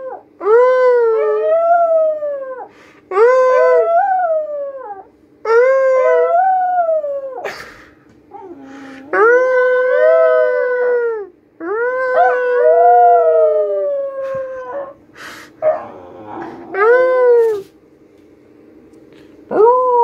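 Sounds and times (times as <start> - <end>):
puppy howling: 0.0 - 7.4, 8.3 - 15.0, 15.6 - 17.6, 19.5 - 20.0.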